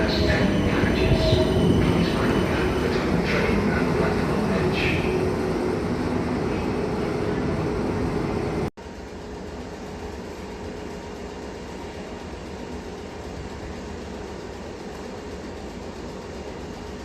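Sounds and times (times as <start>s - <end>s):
train rumble: 0.0s - 17.0s
train running past: 0.0s - 17.0s.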